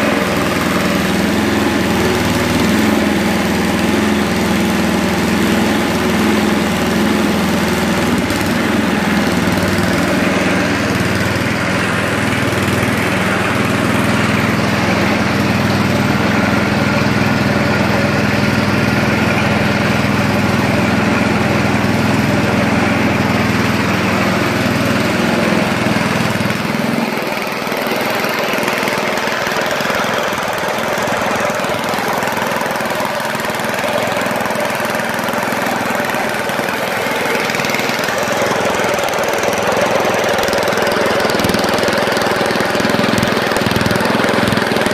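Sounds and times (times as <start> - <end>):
snowblower engine running: 0.0 - 44.9.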